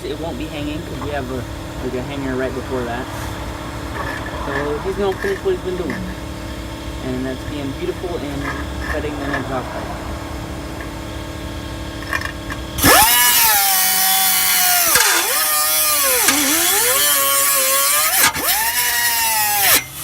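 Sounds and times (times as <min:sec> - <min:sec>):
power tool cutting metal pipe: 0:00.0 - 0:09.8, 0:11.9 - 0:20.0
steady low hum: 0:00.0 - 0:19.9.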